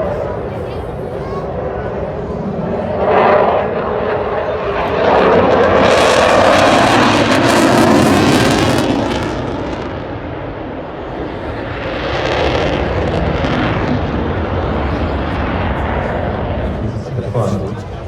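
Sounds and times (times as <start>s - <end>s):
jet engines roaring past: 0.0s - 18.0s.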